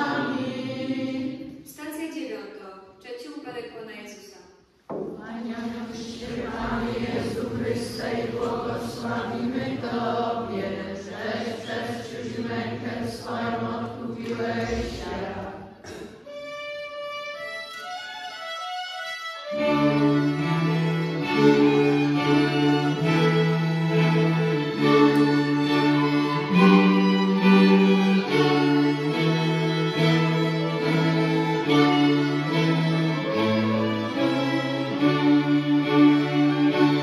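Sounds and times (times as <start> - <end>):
violins and cello playing: 0.0 - 1.6, 5.2 - 37.0
children's choir singing: 0.0 - 1.7, 4.9 - 16.3, 19.5 - 37.0.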